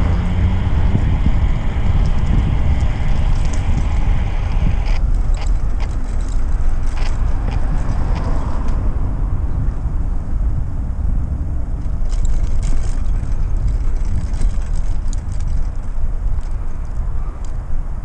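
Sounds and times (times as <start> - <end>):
road noise: 0.0 - 18.0
wind rumbling on microphone: 0.0 - 18.0.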